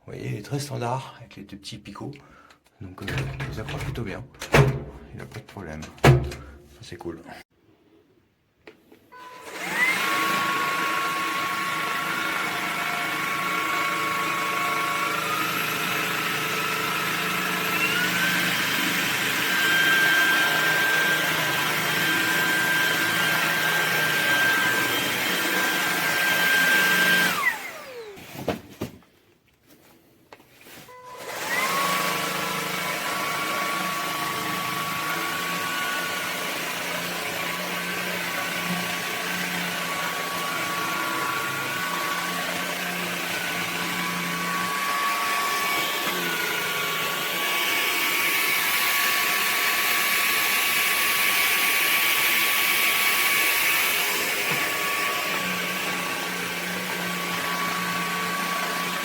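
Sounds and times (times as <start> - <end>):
stick vacuum whining: 3.0 - 6.7, 8.6 - 29.1, 30.6 - 59.0.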